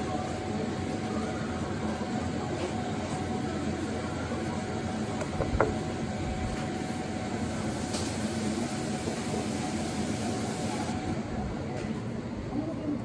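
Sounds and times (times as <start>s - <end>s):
restaurant background rumble: 0.0s - 13.0s.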